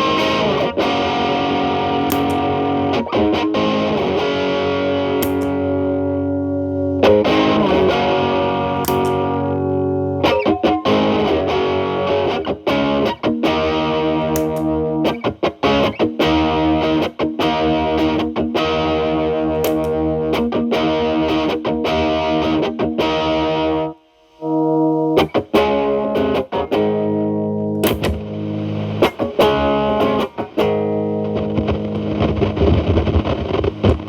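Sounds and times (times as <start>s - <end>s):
distorted electric guitar: 0.0s - 34.0s.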